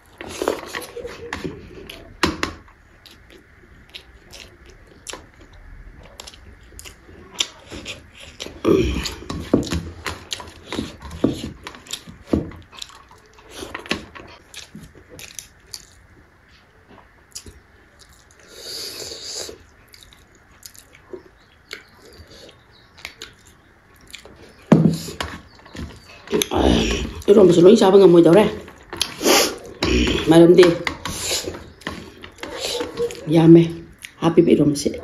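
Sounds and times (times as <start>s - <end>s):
chewing and mouth clicks: 0.0s - 16.1s, 17.2s - 27.7s, 28.6s - 33.3s, 33.9s - 34.2s.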